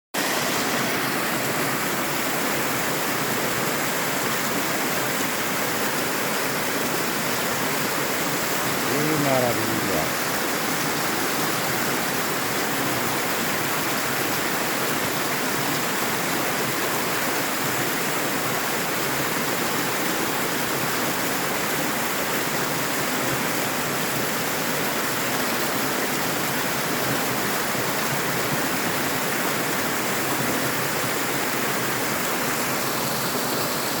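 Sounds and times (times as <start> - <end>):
waterfall water rushing: 0.2 - 34.0.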